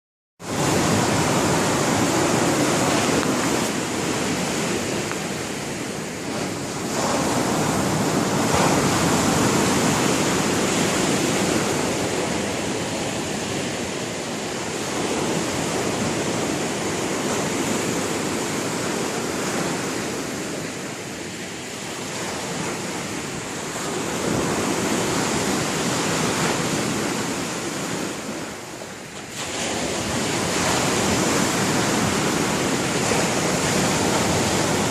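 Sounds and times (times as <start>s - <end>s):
sea waves breaking on shore: 0.4s - 34.9s.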